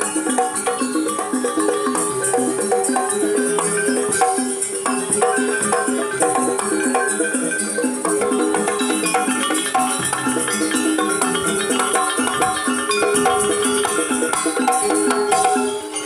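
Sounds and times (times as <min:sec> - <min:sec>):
drums: 0:00.0 - 0:16.0
metal percussion ensemble: 0:00.0 - 0:16.0
rattling jingles: 0:00.0 - 0:16.0.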